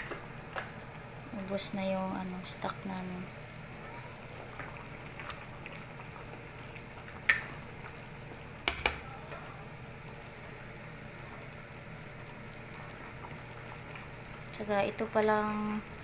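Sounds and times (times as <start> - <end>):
soup bubbling in a pot: 0.0 - 16.0.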